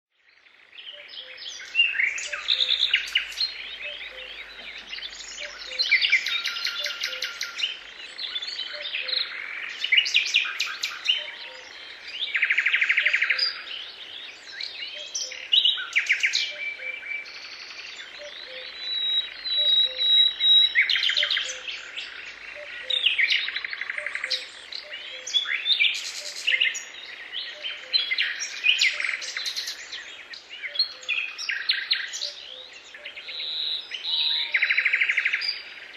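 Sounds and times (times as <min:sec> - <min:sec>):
songbirds chirping and trilling: 0:00.1 - 0:35.9.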